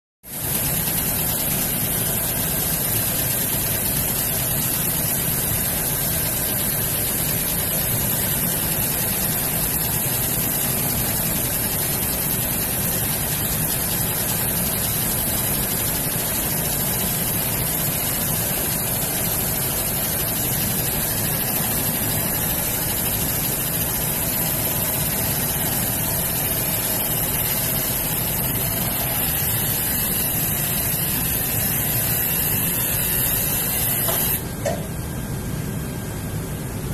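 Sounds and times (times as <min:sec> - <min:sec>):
laser marking machine hissing: 0:00.3 - 0:34.5.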